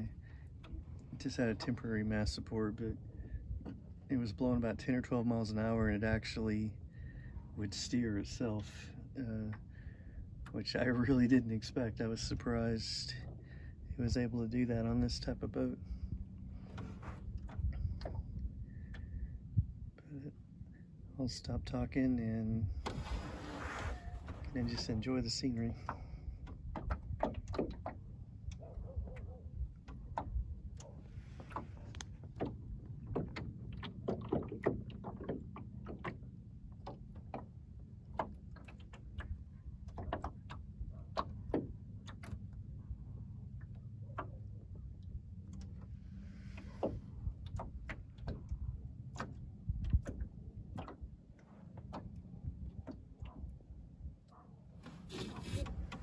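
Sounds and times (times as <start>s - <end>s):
waves lapping against wooden hull: 0.0s - 56.0s.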